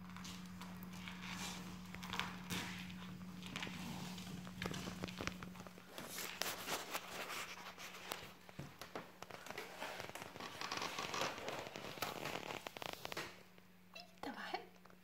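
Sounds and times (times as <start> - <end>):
claws scraping floor: 0.1 - 13.4.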